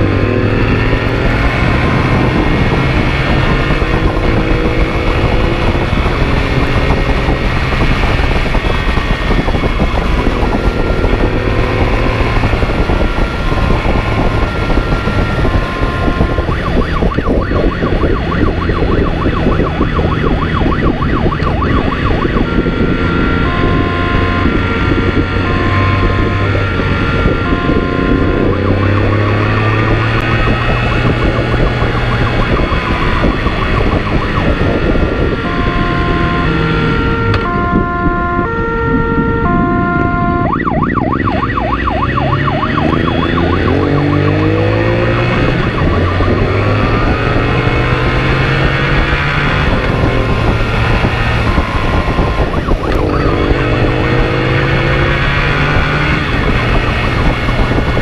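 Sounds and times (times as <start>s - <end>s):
motorcycle engine at speed: 0.0s - 58.0s
police siren: 0.0s - 58.0s
wind rush: 0.0s - 58.0s.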